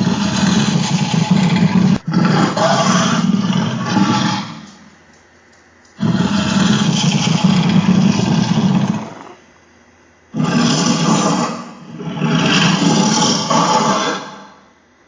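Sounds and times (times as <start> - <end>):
monster roar: 0.0 - 4.8, 6.0 - 9.4, 10.4 - 14.6.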